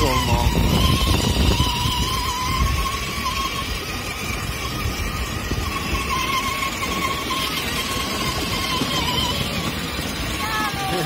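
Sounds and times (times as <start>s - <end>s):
plastic wheels rolling on paving: 0.0s - 11.0s
toy car electric motor whine: 0.0s - 11.0s.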